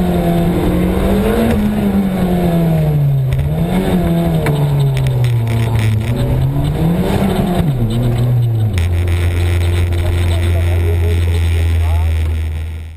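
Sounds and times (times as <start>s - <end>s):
rally car engine revving: 0.0s - 12.9s.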